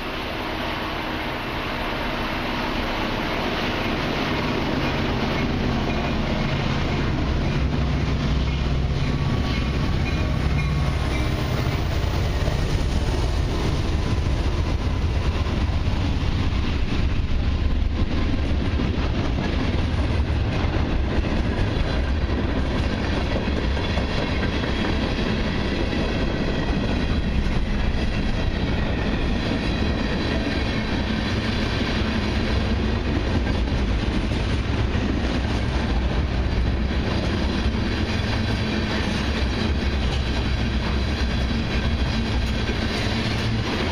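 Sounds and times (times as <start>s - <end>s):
freight train rumble: 0.0s - 43.9s.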